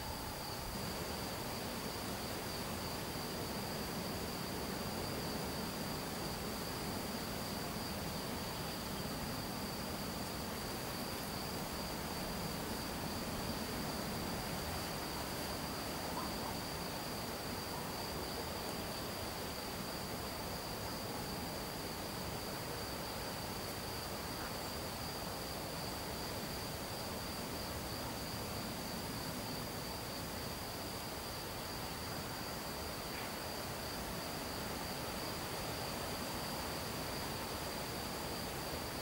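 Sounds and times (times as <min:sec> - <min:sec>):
background hiss: 0:00.0 - 0:39.0.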